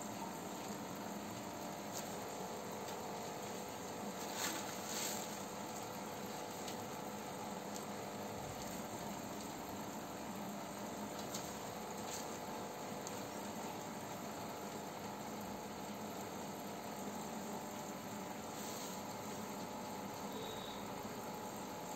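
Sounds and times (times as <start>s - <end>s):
air pump humming: 0.0s - 21.9s.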